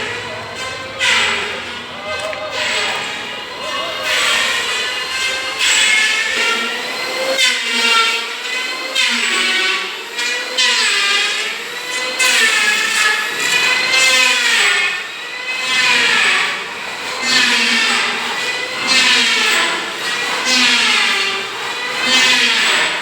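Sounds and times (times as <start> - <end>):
power tool motor whining: 0.0 - 23.0.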